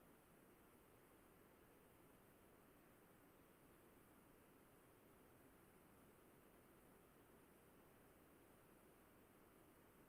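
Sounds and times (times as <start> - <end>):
faint recording hiss: 0.0 - 10.0.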